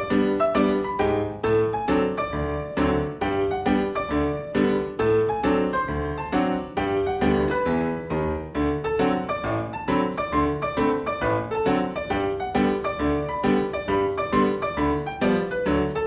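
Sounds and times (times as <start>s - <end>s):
piano music with bass line: 0.0s - 16.0s.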